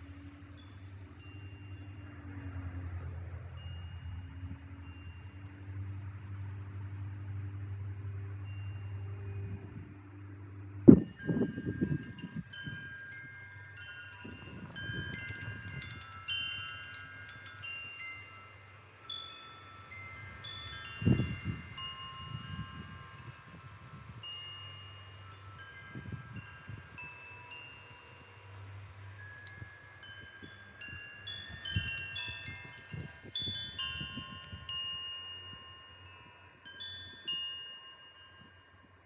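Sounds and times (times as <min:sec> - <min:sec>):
wind chimes ringing: 0:00.0 - 0:39.0
wind gusts on microphone: 0:00.8 - 0:37.6.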